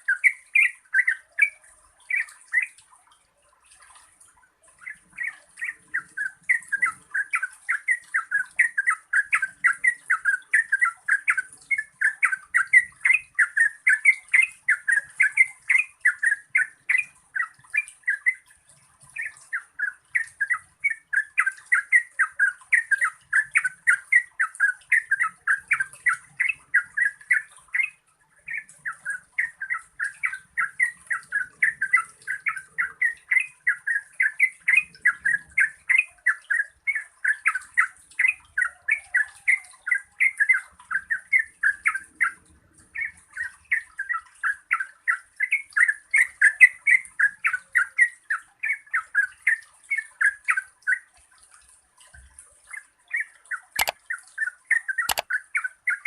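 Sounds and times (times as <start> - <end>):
bird singing bubbling notes: 0.0 - 3.2, 4.2 - 51.1.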